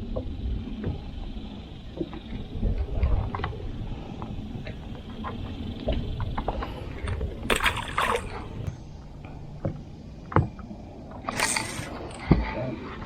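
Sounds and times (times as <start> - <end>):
clicks and knocks on boat: 0.0 - 13.0.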